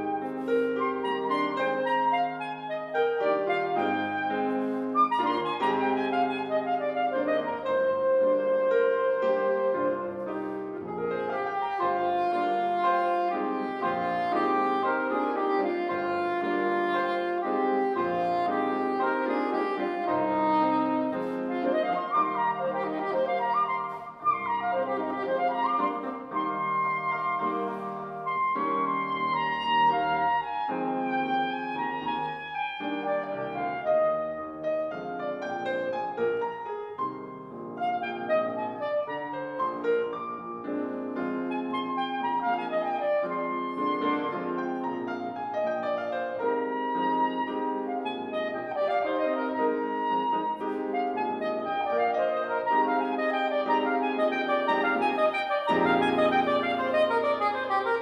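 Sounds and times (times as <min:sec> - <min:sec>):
soprano saxophone melody: 0:00.0 - 0:37.0, 0:37.7 - 0:58.0
grand piano: 0:00.0 - 0:58.0.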